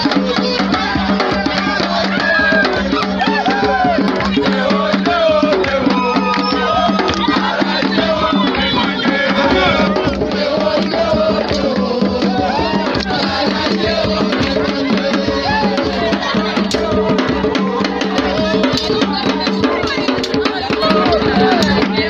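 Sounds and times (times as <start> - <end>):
fast hand-drum strikes: 0.0 - 22.0
voices singing and calling: 0.0 - 22.0.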